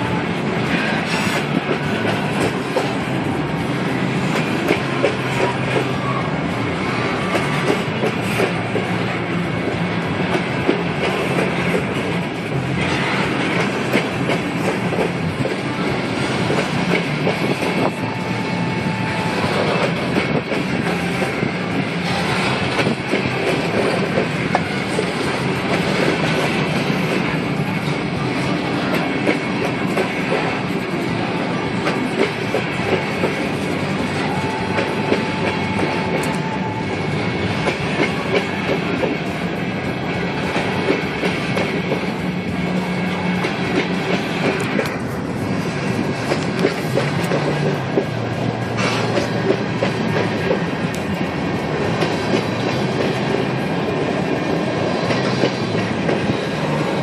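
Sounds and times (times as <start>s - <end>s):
train wheels clattering over rails: 0.0s - 57.0s.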